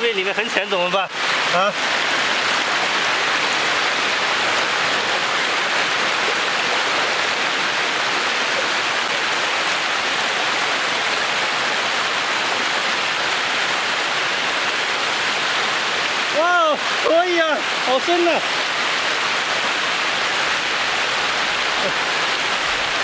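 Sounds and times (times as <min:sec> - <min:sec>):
water pouring over stone dam: 0:00.0 - 0:23.0.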